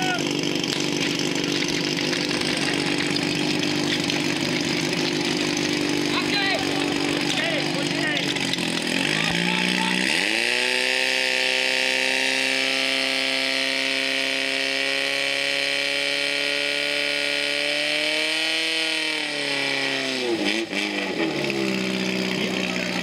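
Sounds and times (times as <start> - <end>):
fire pump engine revving: 0.0 - 23.0.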